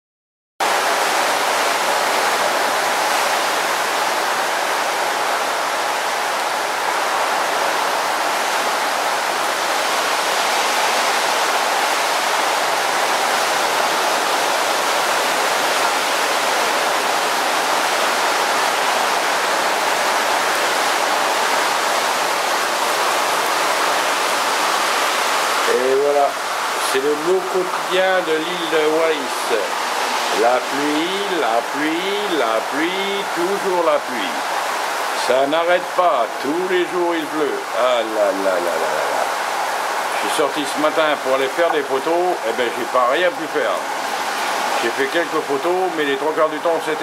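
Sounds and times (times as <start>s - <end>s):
heavy rain: 0.6s - 47.0s.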